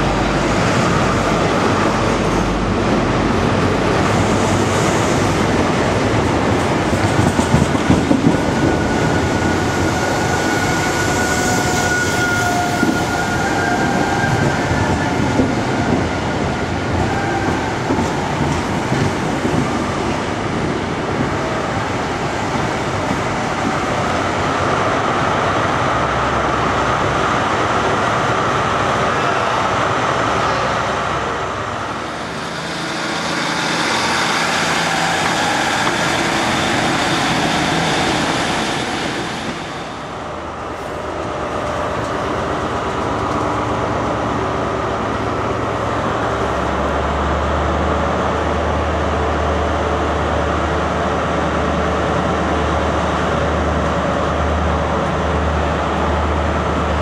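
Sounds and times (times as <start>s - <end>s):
diesel locomotive passing: 0.0s - 57.0s
train coaches rumbling and clattering: 0.0s - 57.0s.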